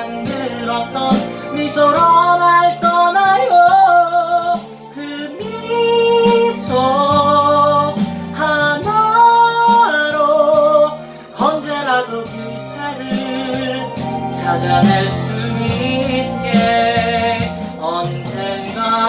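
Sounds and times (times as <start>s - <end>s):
karaoke backing track: 0.0s - 19.0s
man singing a ballad: 0.0s - 19.0s.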